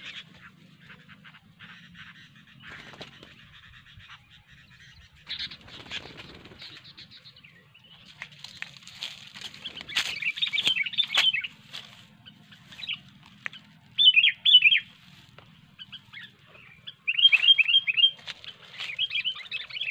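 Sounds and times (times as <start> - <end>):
bulbuls chattering calls: 0.0 - 19.9.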